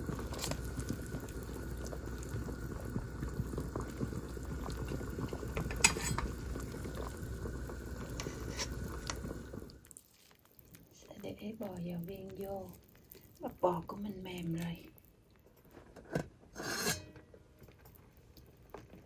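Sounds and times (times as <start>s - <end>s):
broth simmering and bubbling: 0.0s - 19.0s.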